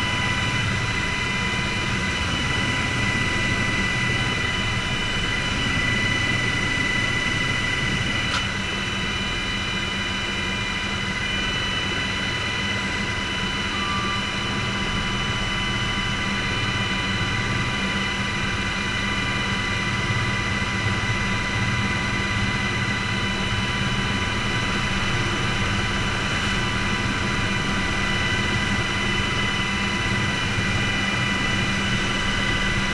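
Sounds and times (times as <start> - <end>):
helicopter engine and rotor: 0.0 - 32.9.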